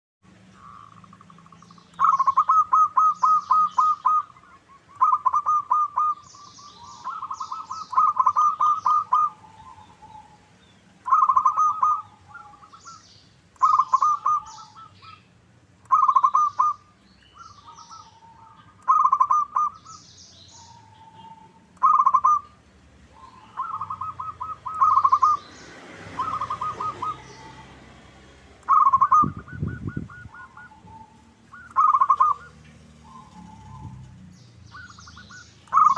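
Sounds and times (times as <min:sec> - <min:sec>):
small birds chirping: 0:00.3 - 0:35.9
dove cooing song: 0:00.4 - 0:35.9.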